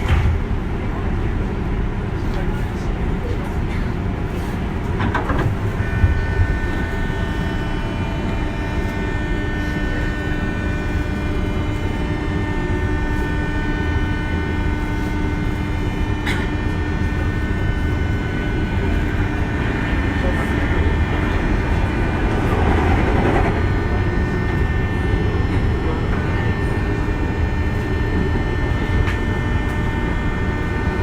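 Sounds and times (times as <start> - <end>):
train wheels rumbling on rails: 0.0 - 31.0
multi-tone motor whine: 4.2 - 31.0.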